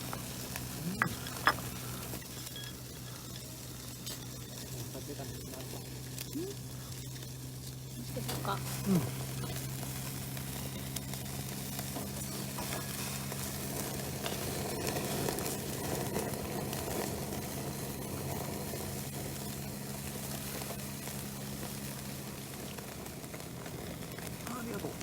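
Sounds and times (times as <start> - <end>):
steady low hum: 0.0 - 25.0
wood bonfire crackling: 0.0 - 25.0.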